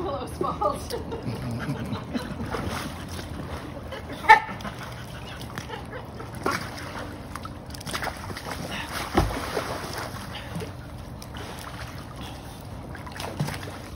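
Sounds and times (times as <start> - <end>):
pool water sloshing and lapping: 0.0 - 13.9.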